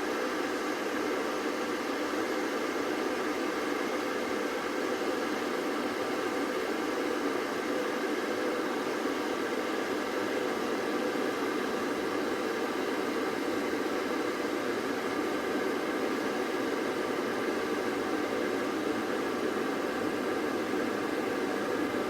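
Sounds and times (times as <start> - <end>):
electric kettle heating water: 0.0 - 22.0.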